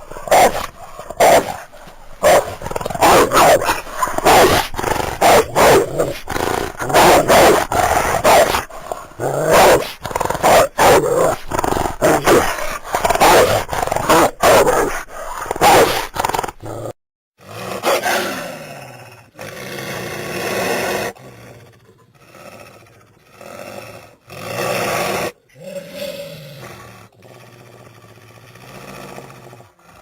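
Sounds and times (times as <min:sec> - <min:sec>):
wolf snarling and growling: 0:00.0 - 0:30.0.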